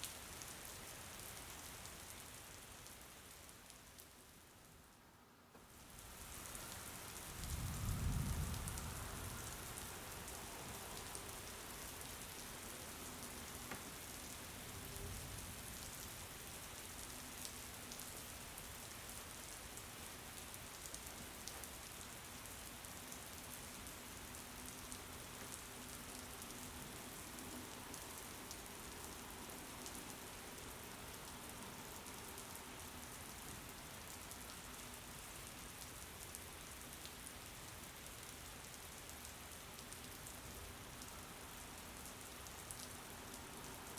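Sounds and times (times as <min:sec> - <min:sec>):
steady rain with ticking drops: 0:00.0 - 0:43.9.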